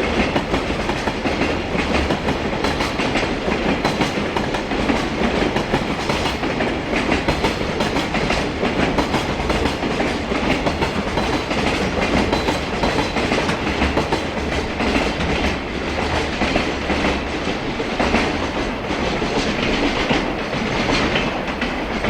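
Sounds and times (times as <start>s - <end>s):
freight train wagons rolling past: 0.0s - 22.0s.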